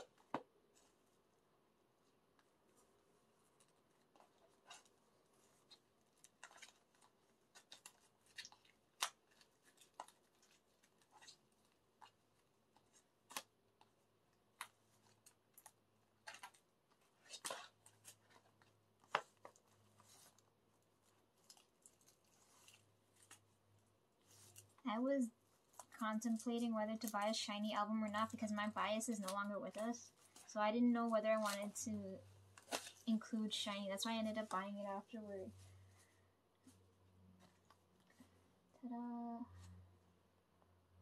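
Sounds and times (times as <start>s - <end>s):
plastic wrapping crackling: 2.0s - 36.8s.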